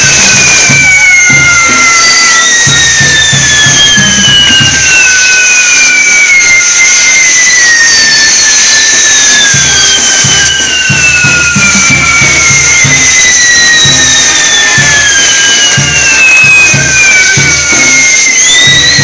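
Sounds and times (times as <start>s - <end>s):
fireworks hissing: 0.0s - 19.0s
music with drum beat: 0.0s - 19.0s
whistles sliding down in pitch: 0.0s - 19.0s.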